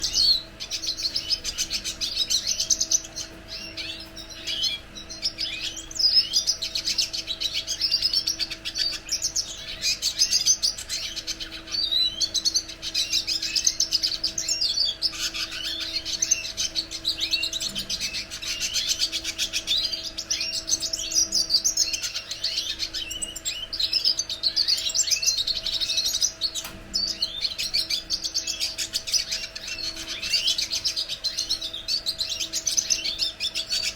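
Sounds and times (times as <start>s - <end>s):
bird twittering song: 0.0s - 33.9s
steady low hum: 0.0s - 33.9s.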